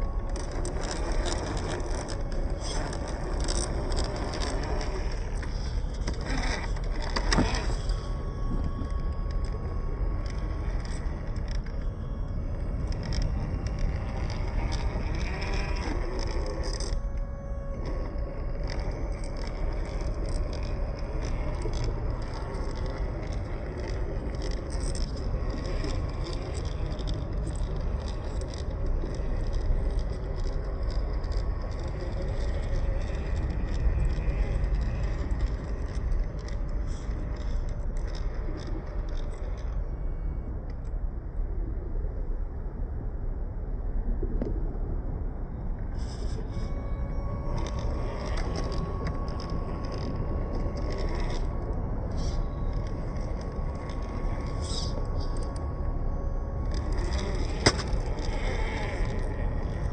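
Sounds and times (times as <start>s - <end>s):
tyres scraping over rock: 0.0s - 11.8s, 12.6s - 39.7s, 47.3s - 59.9s
chassis and stones rattling: 0.0s - 39.7s, 47.3s - 59.9s
electric motor and gearbox whining: 0.0s - 41.4s, 45.6s - 59.9s.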